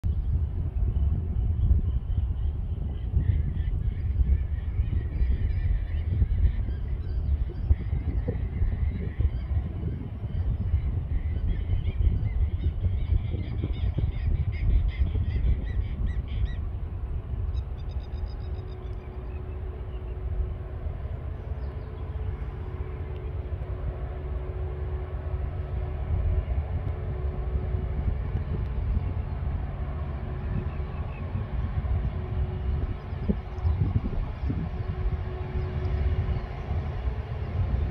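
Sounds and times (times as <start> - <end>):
distant locomotive rumble: 0.0 - 37.9.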